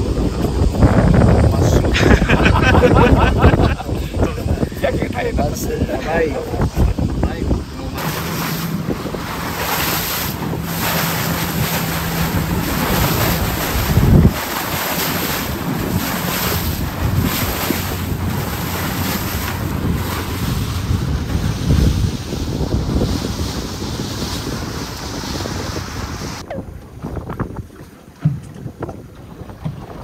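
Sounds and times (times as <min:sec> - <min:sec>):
water rushing past boat: 0:00.0 - 0:30.0
wind buffeting microphone: 0:00.0 - 0:30.0.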